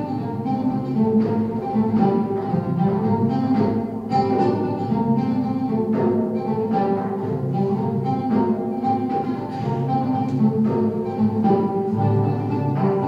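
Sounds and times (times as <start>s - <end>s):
plucked oud melody: 0.0s - 13.0s.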